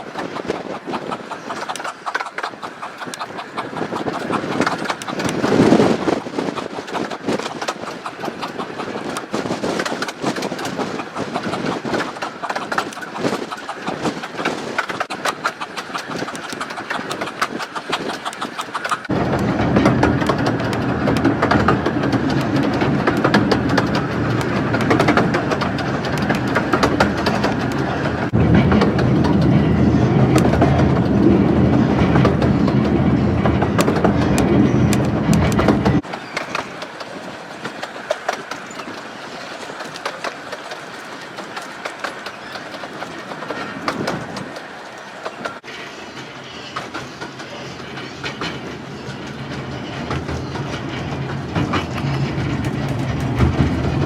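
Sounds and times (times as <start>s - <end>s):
train running with low hum: 0.0s - 54.0s
train wheels clicking over rail joints: 0.0s - 54.0s.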